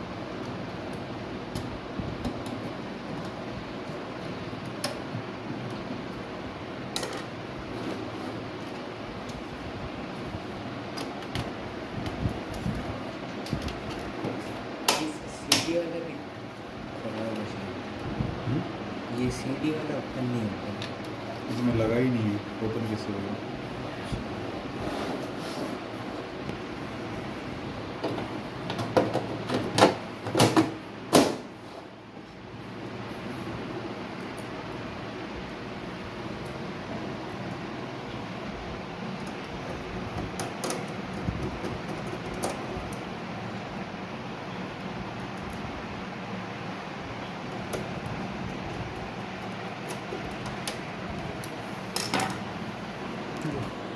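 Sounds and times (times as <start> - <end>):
low background noise: 0.0 - 53.9
low machine hum and hiss: 0.0 - 53.9.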